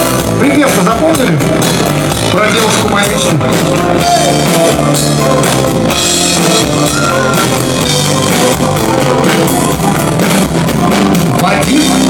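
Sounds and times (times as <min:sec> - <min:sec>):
live pop-rock band playing: 0:00.0 - 0:12.0.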